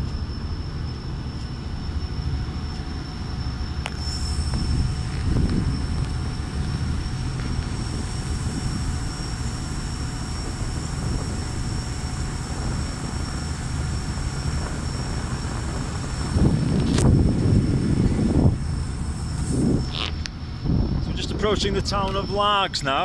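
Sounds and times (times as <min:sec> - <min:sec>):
faint high whine: 0:00.0 - 0:23.0
ship engines droning: 0:00.0 - 0:23.0.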